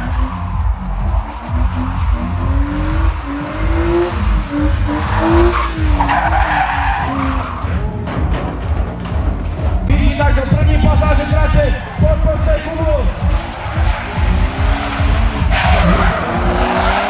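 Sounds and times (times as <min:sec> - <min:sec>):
car engine revving: 0:00.0 - 0:17.0
tyres squealing: 0:00.0 - 0:17.0.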